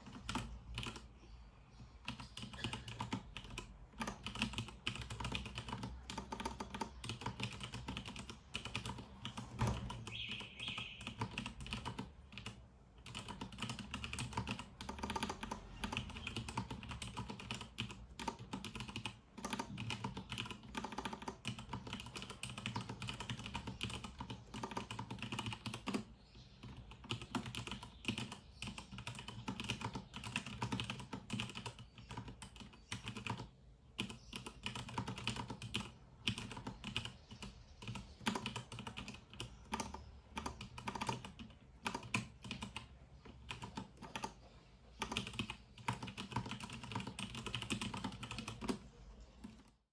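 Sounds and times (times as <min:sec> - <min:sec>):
mechanical keyboard typing: 0:00.0 - 0:01.1, 0:02.0 - 0:44.4, 0:45.0 - 0:49.8.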